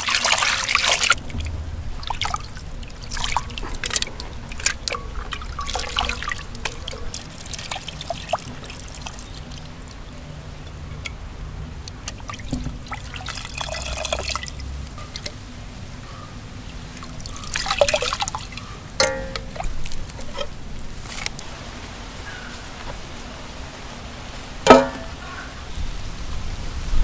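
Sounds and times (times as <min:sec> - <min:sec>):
water splashing: 0:00.0 - 0:15.8, 0:16.6 - 0:21.7, 0:24.6 - 0:25.4
water trickling and dripping: 0:00.0 - 0:25.4.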